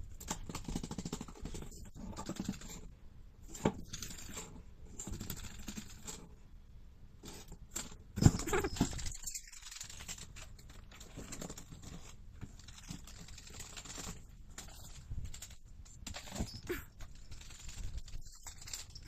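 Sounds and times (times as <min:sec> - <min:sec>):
crinkly rustling and scratching: 0:00.0 - 0:06.4, 0:07.2 - 0:19.0.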